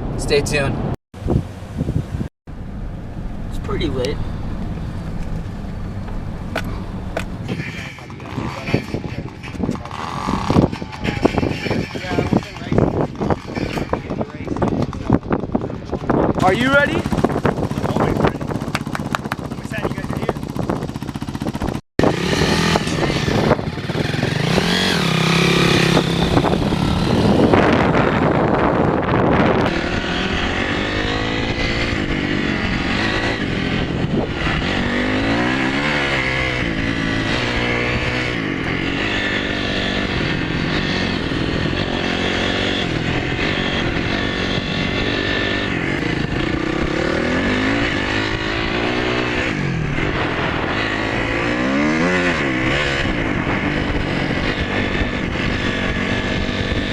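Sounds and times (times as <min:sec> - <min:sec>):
dirt bike engine revving: 0:07.4 - 0:56.9.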